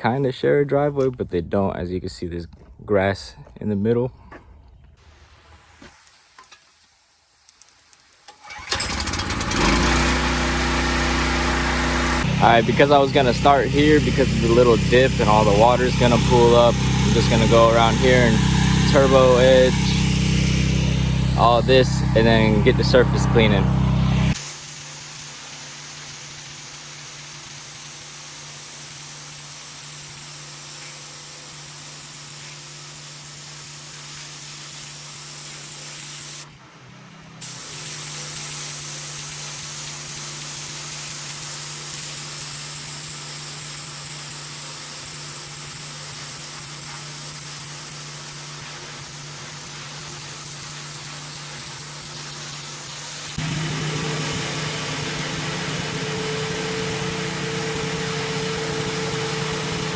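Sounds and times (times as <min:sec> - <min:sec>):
high-pressure water spraying: 0:05.0 - 0:36.5, 0:37.4 - 0:59.9
pressure washer hum: 0:08.3 - 0:59.9.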